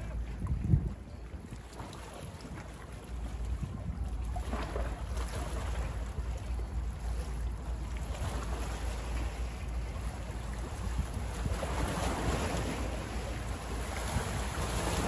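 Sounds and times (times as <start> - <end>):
wind buffeting microphone: 0.0 - 7.2, 8.2 - 15.0
waves lapping at shore: 0.0 - 15.0.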